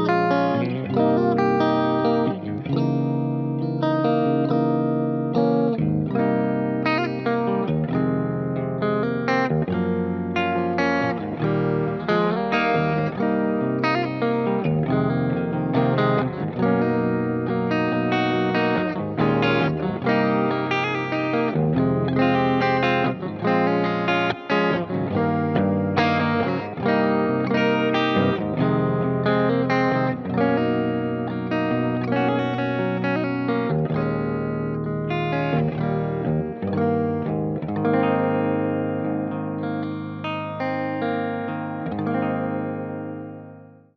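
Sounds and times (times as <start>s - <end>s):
backing track with bass: 0.0s - 43.9s
electric guitar melody: 0.0s - 43.9s.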